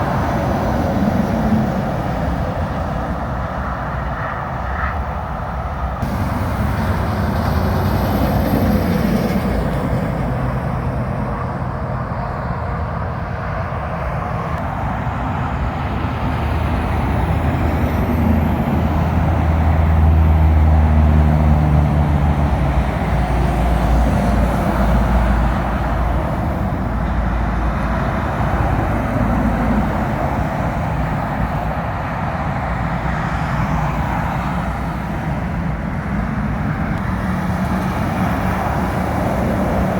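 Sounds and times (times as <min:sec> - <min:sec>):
traffic passing on wet road: 0:00.0 - 0:39.9
diesel truck engine droning: 0:05.7 - 0:39.9.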